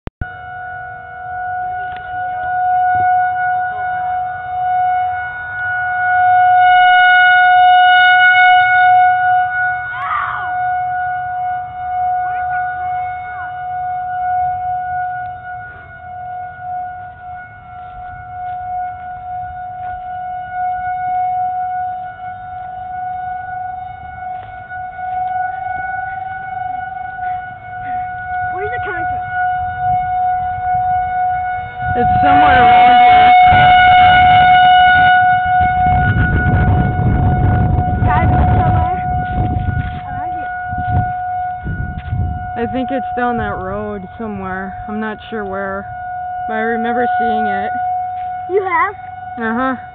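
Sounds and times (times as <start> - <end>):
warning siren steady tone: 0.1 - 49.9.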